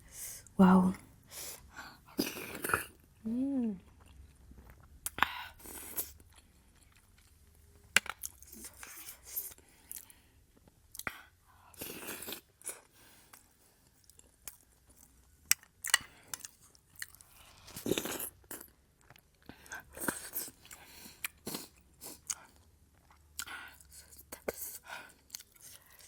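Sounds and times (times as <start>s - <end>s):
person chewing food: 3.8s - 26.0s.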